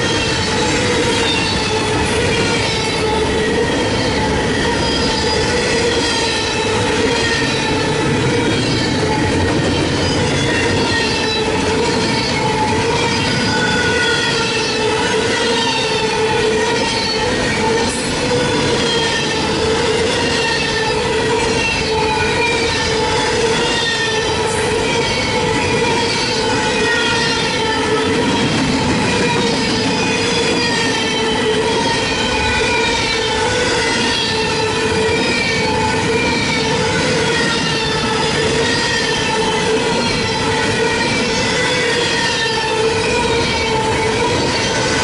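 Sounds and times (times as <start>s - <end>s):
train wheels squealing on rail: 0.0s - 45.0s.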